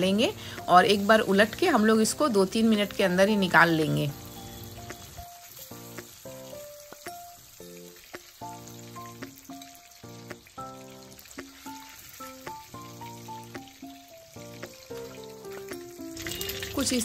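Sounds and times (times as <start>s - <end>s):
fish sizzling in hot oil: 0.0s - 17.0s
soft background music: 0.0s - 17.0s.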